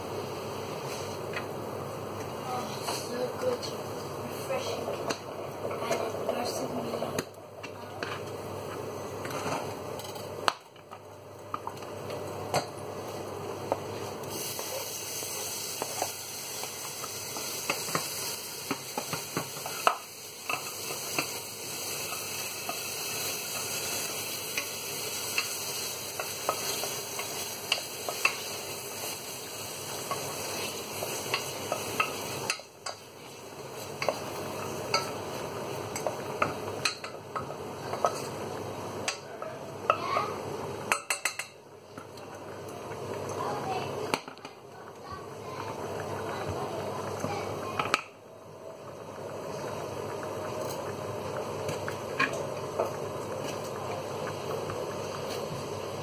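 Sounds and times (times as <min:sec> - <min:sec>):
tomatoes and garlic sizzling in oil: 0:00.0 - 0:56.0.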